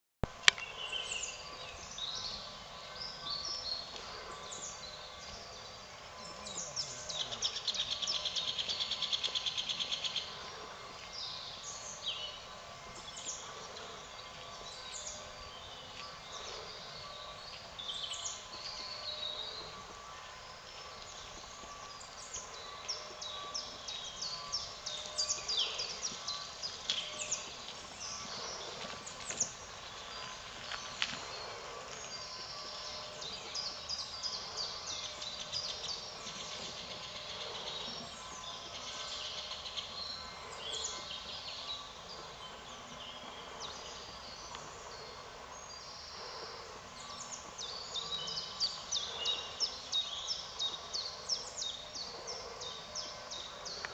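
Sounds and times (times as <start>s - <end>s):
songbirds chirping: 0.2s - 53.9s.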